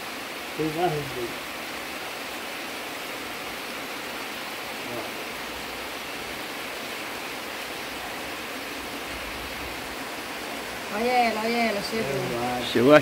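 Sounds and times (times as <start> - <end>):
rain falling on trees: 0.0 - 13.0.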